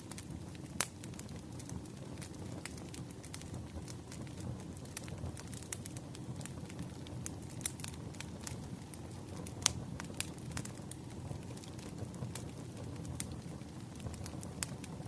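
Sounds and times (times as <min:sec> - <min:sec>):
firewood popping and crackling: 0:00.0 - 0:15.0
low rush of fire: 0:00.0 - 0:15.0.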